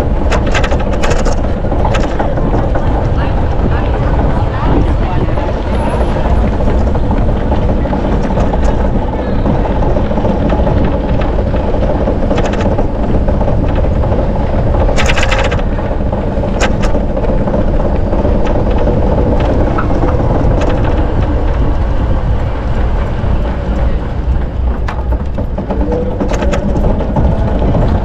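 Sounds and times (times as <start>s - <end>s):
bicycle tyres rolling: 0.0s - 28.0s
clicks and rattles: 0.0s - 28.0s
rapid ticking: 0.0s - 28.0s
wind on microphone: 0.0s - 28.0s.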